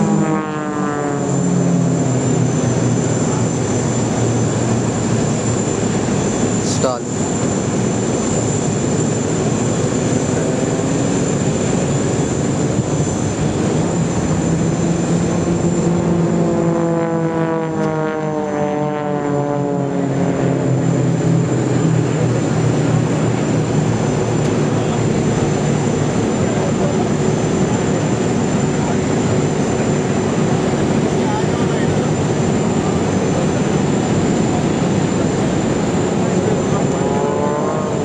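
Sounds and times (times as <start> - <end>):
propeller plane engines droning: 0.0 - 38.0.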